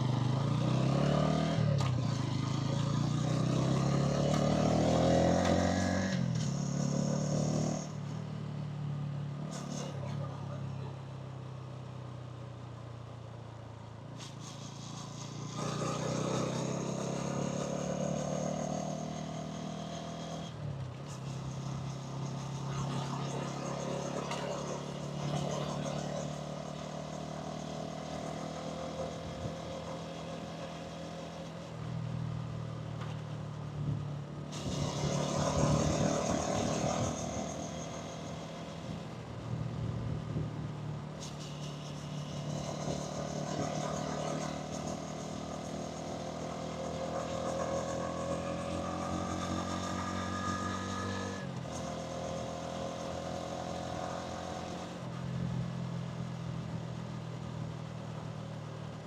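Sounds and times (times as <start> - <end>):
motorcycle engine and exhaust: 0.0 - 59.0
road noise: 0.0 - 59.0
wind: 0.0 - 59.0.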